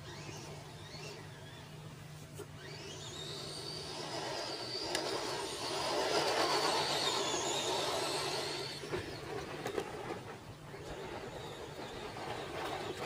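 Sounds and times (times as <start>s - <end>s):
rc truck electric motor whining: 0.0s - 13.0s.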